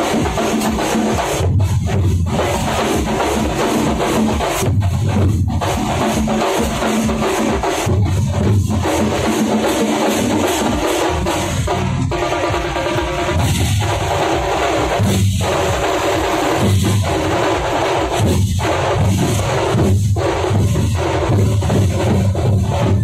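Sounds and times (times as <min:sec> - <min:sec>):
drums beaten in heavy rhythm: 0:00.0 - 0:23.0.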